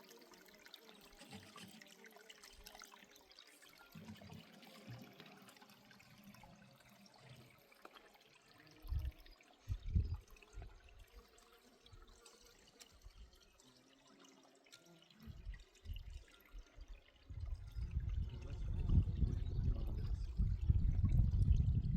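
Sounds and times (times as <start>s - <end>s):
water trickling: 0.0s - 21.9s.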